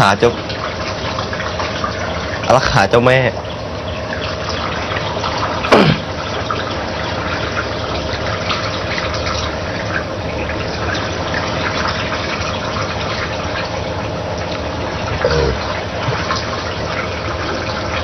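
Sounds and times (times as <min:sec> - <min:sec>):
faint hum: 0:00.0 - 0:18.0
running water rushing: 0:00.0 - 0:18.0.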